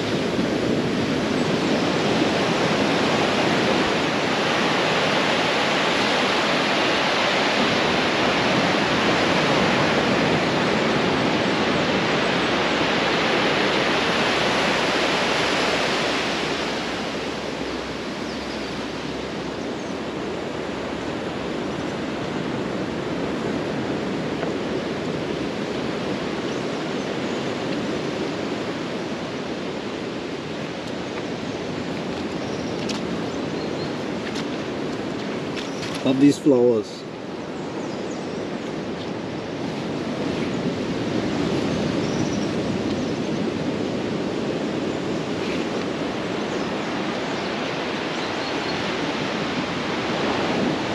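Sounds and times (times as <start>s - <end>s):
surf washing onto beach: 0.0s - 50.9s.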